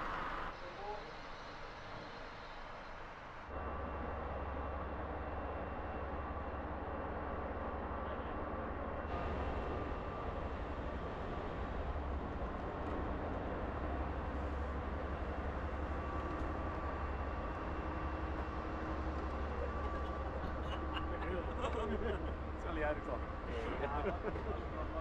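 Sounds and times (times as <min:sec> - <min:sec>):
ship engines rumbling: 0:03.6 - 0:25.0.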